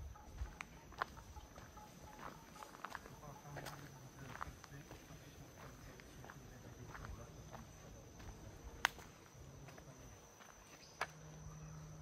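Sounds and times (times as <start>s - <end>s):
crickets trilling: 0.0s - 12.0s
footsteps on leafy dirt path: 0.0s - 12.0s.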